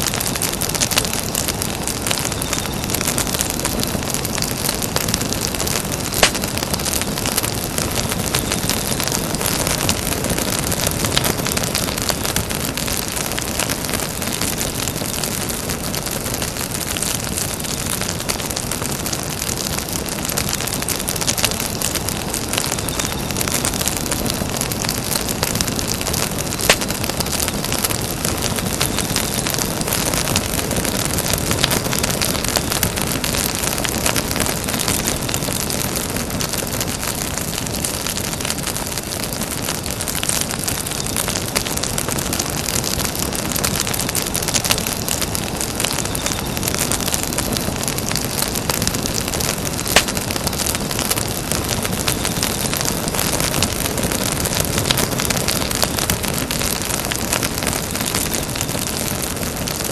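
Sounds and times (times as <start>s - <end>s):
campfire crackling and hissing: 0.0s - 59.9s
sharp fire pops: 0.0s - 59.9s.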